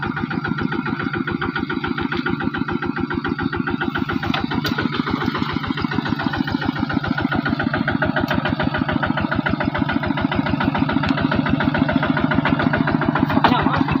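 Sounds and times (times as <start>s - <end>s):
tractor engine thumping: 0.0s - 14.0s.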